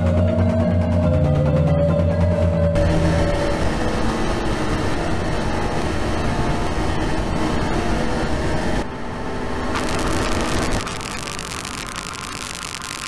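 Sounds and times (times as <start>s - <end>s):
dense rumbling drone: 2.4s - 13.0s.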